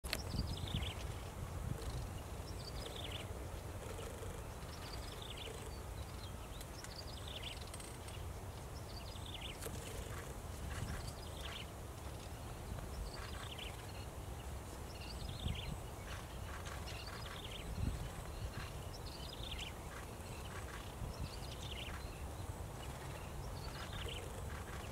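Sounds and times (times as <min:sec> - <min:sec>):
bird chirping: 0:00.1 - 0:11.7, 0:12.6 - 0:24.9.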